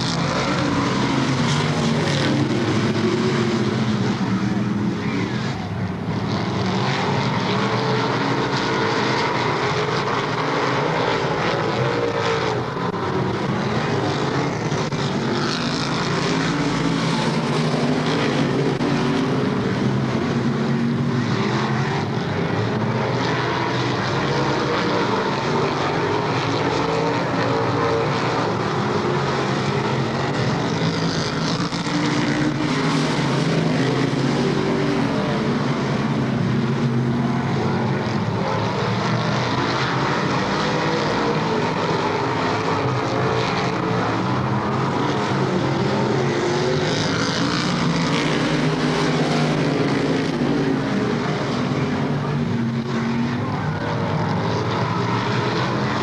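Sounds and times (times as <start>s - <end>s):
race car engines droning: 0.0s - 56.0s.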